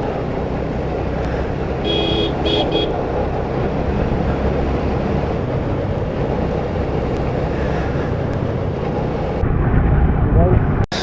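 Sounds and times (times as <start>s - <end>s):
motorcycle engine and road drone: 0.0s - 11.0s.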